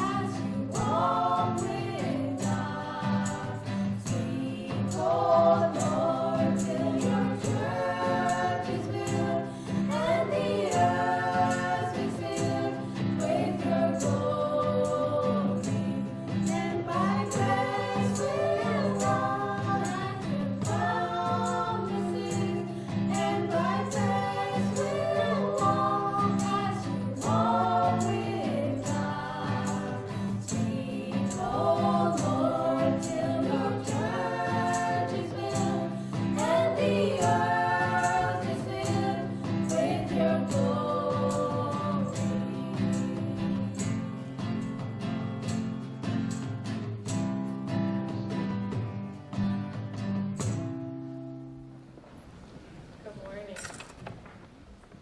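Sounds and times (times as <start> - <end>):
choir singing gospel: 0.0 - 45.8.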